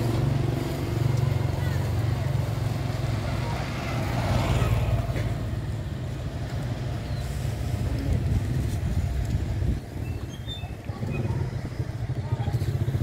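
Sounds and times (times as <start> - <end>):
low rumble of vehicle traffic: 0.0 - 13.0.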